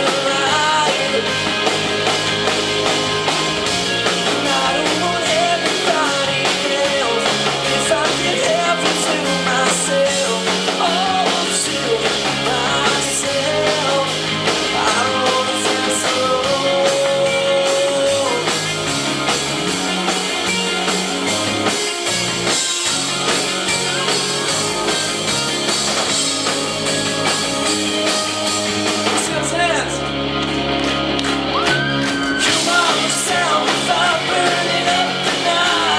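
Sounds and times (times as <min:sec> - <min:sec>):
pop-rock band playing: 0:00.0 - 0:35.9.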